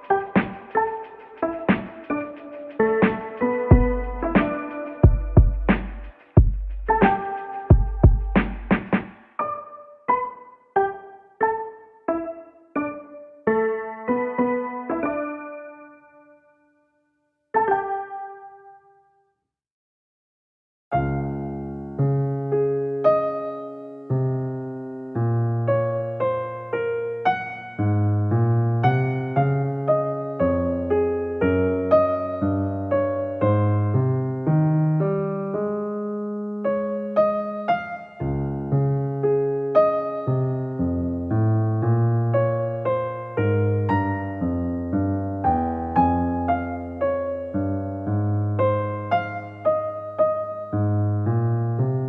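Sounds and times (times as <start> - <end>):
slow gentle piano music: 0.0 - 19.3, 20.9 - 52.0.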